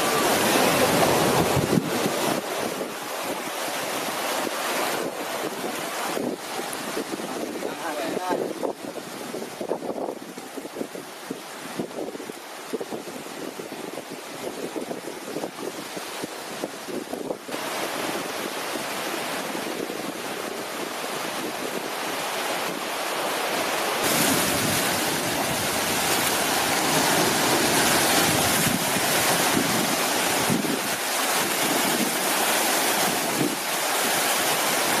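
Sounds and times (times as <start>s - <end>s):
surf breaking against rocks: 0.0s - 35.0s
wind on microphone: 0.0s - 35.0s.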